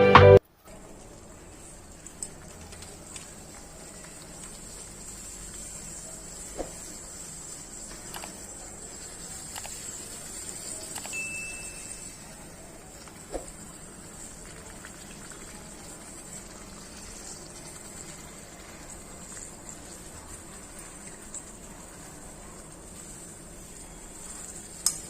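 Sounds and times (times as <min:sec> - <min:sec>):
faint high sizzle: 0:00.0 - 0:25.0.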